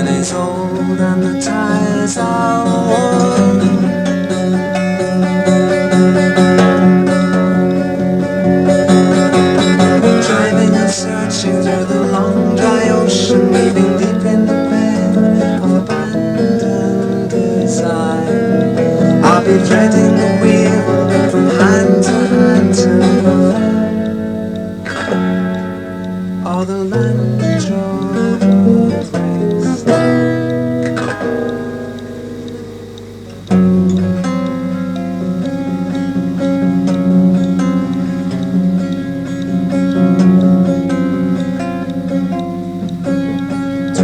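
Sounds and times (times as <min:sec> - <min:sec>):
twelve-string guitar strummed: 0:00.0 - 0:44.0.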